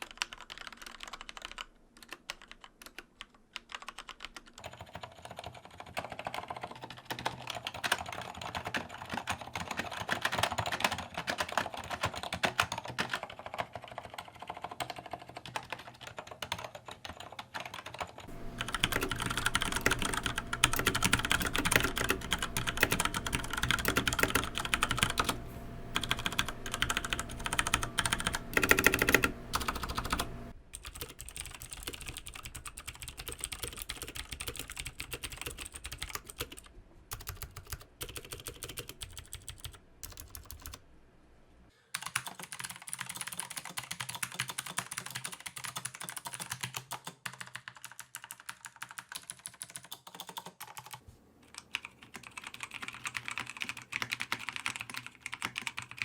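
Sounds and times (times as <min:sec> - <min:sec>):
mechanical keyboard typing: 0:00.0 - 0:40.8, 0:42.0 - 0:56.0.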